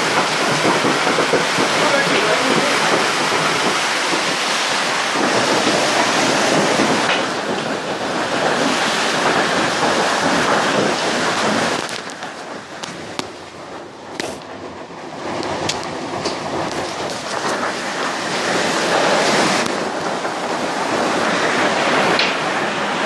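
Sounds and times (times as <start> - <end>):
heavy rain: 0.0 - 23.0
wind: 0.0 - 23.0.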